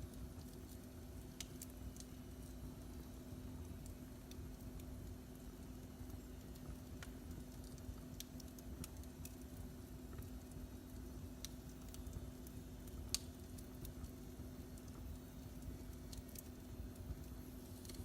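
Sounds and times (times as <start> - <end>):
fire crackles and pops: 0.0 - 18.0
steady low hum: 0.0 - 18.0.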